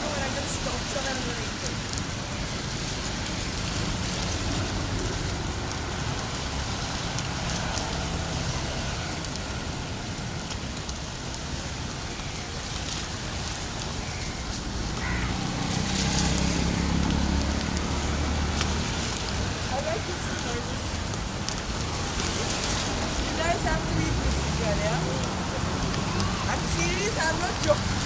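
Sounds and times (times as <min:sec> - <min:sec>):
rain hiss: 0:00.0 - 0:28.0
street traffic: 0:00.0 - 0:28.0.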